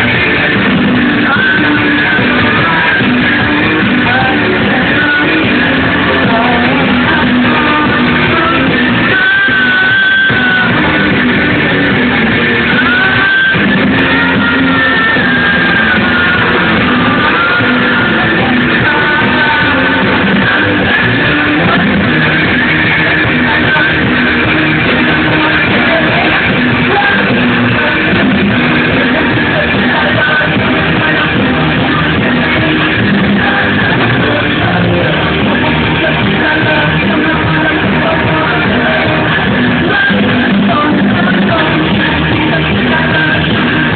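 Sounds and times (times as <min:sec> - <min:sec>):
amplified singing: 0:00.0 - 0:43.9
electric guitar: 0:00.0 - 0:43.9.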